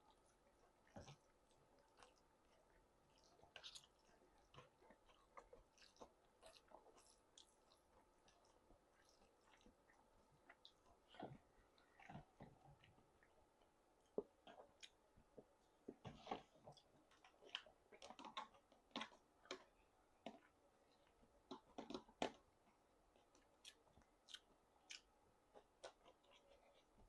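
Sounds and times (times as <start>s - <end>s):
wet chewing clicks and smacks: 0.8s - 22.4s, 23.2s - 26.9s.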